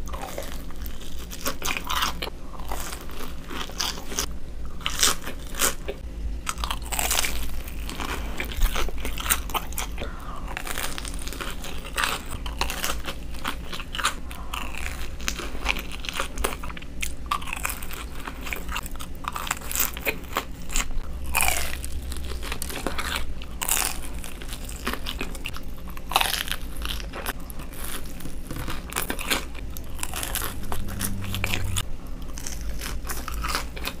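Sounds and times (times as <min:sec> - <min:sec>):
soft chewing: 0:00.0 - 0:34.0
crisp crunching bites: 0:00.1 - 0:34.0.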